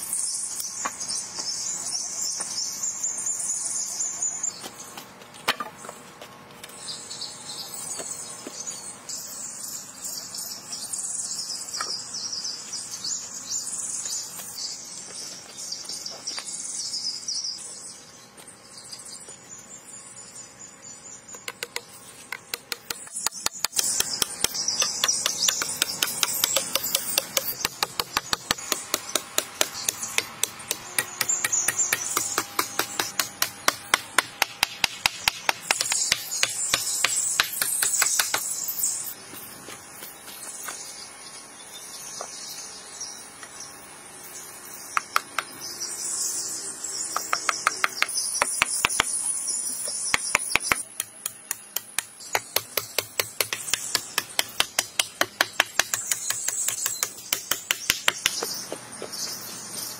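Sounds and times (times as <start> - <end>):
insects buzzing: 6.8 - 59.9.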